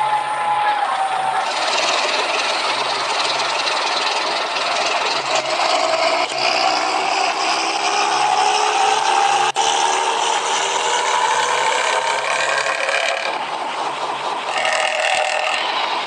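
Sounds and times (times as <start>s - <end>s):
rattly bus engine running: 0.0s - 16.0s.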